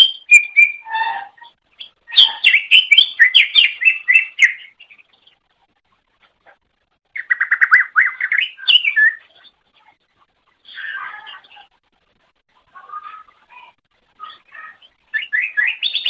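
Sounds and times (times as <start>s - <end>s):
bird chirping song: 0.0s - 11.8s, 12.6s - 16.0s.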